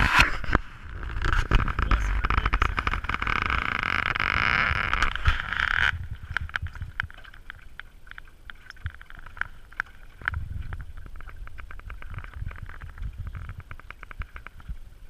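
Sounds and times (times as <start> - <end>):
wind rumble on microphone: 0.0 - 7.6, 8.7 - 15.0
water rushing along hull: 0.0 - 15.0
water slapping hull: 0.0 - 15.0.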